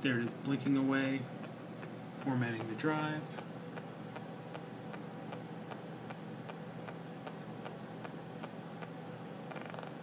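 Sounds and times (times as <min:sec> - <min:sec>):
steady low hum: 0:00.0 - 0:10.0
faint regular ticking: 0:01.4 - 0:10.0.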